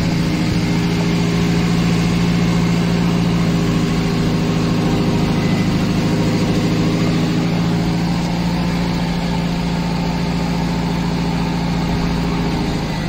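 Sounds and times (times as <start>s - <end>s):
diesel engine roaring: 0.0s - 13.0s.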